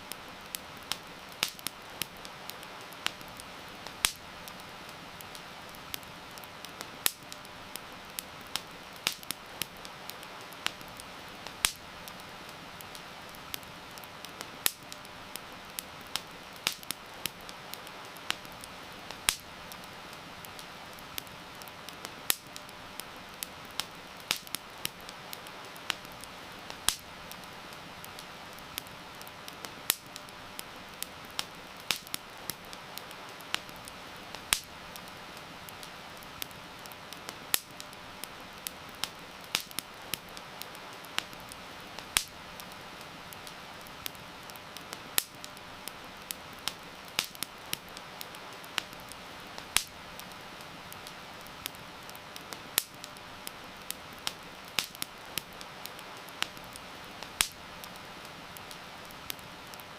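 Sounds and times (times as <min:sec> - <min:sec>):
rain hissing: 0:00.0 - 0:59.9
wood fire crackling: 0:00.0 - 0:59.9.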